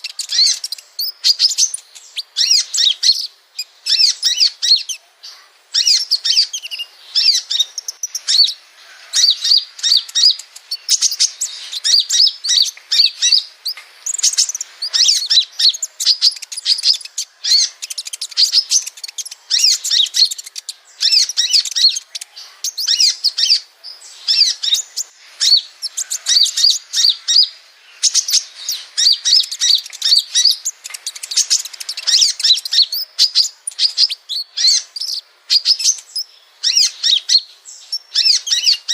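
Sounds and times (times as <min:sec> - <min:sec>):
sunbird twittering song: 0:00.0 - 0:38.9.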